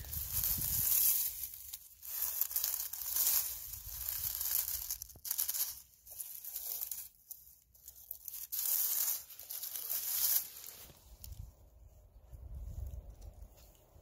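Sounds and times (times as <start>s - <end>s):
dry leaves crackling and rustling: 0.0s - 11.4s.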